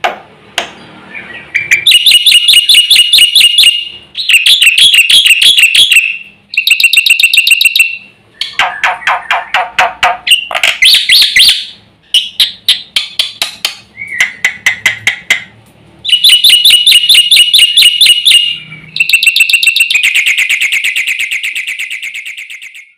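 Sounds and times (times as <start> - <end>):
bird singing rapid phrases: 0.7 - 15.2, 16.0 - 22.9.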